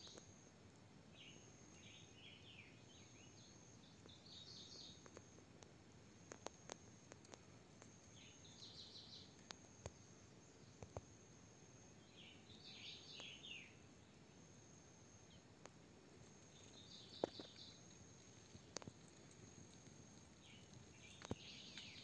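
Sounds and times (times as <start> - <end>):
high insect tone: 1.1 - 22.0.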